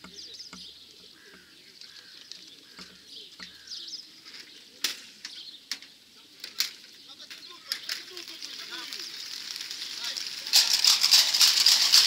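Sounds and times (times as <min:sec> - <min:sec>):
wings fluttering: 0:00.0 - 0:05.4, 0:06.2 - 0:12.0
pigeons calling: 0:00.0 - 0:12.0.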